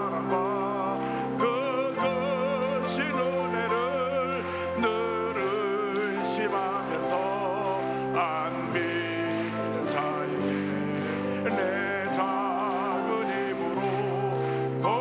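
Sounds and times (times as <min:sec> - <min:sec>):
sustained instrumental accompaniment: 0:00.0 - 0:15.0.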